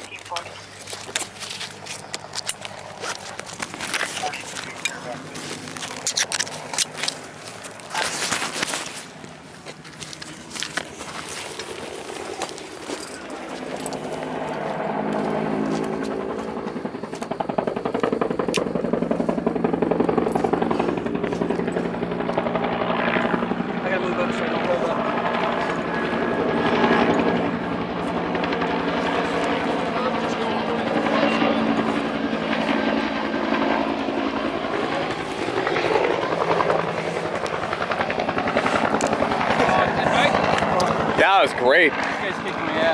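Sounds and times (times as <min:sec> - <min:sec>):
helicopter engine whine: 0:00.0 - 0:42.9
helicopter rotor beating: 0:00.0 - 0:42.9.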